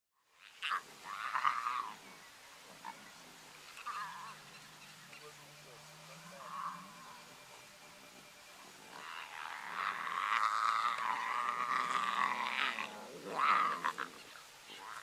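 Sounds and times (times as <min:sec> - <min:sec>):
faint low hum: 0:00.2 - 0:15.0.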